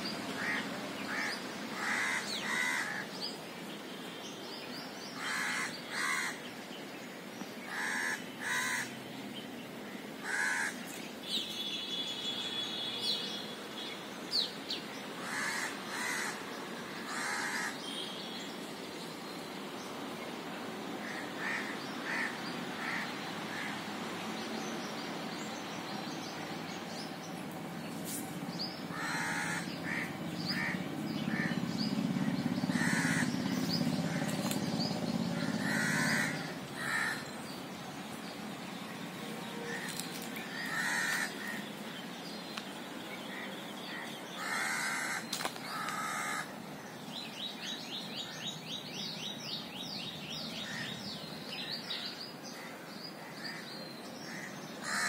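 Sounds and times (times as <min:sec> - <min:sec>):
harsh bird calls: 0:00.0 - 0:06.6, 0:07.5 - 0:55.0.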